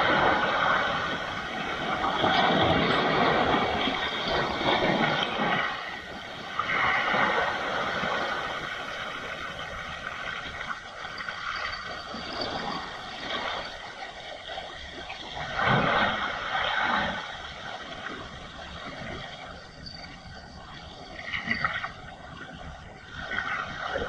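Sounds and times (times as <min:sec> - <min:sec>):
waves breaking on rocky shore: 0:00.0 - 0:24.0.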